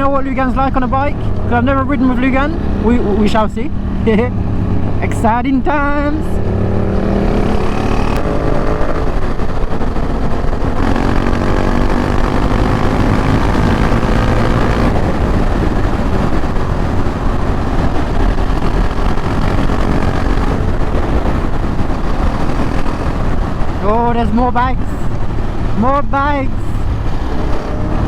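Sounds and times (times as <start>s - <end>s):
motorcycle engine running: 0.0s - 28.0s
wind rush: 0.0s - 28.0s.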